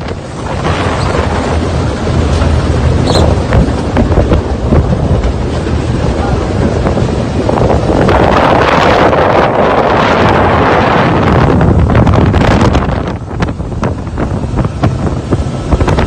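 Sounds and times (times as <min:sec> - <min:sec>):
boat rumbling across water: 0:00.0 - 0:16.0
wind buffeting microphone: 0:00.0 - 0:16.0.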